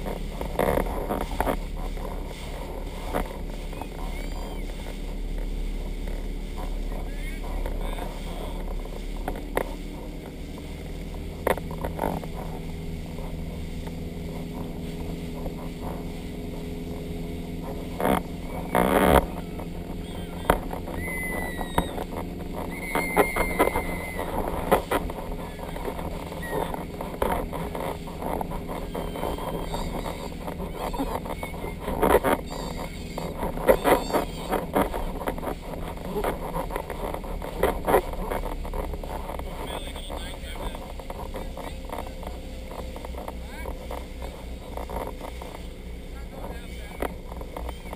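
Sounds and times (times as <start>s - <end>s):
wind rush: 0.0s - 44.0s
motorboat engine running: 0.0s - 47.9s
water rushing: 0.0s - 47.9s.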